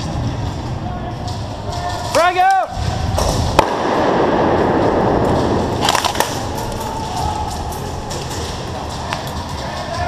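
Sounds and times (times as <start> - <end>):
sharp cracks: 1.2 - 10.0.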